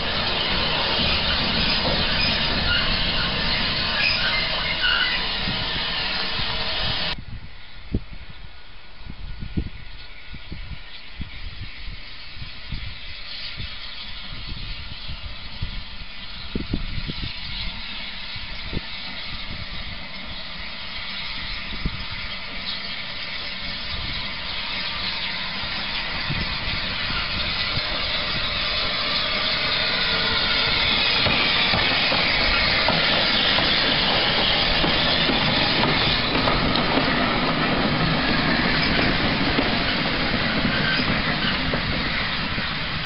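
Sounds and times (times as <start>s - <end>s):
steam hissing: 0.0s - 7.2s, 11.2s - 43.0s
steam locomotive passing: 0.0s - 43.0s.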